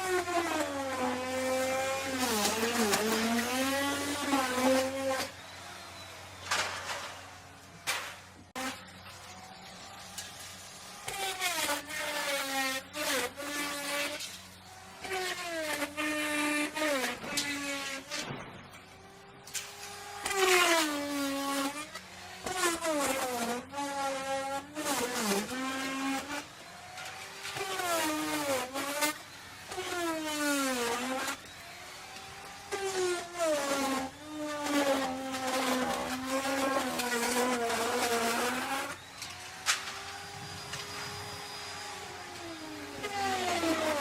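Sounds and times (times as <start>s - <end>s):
wood router cutting: 0.0s - 44.0s.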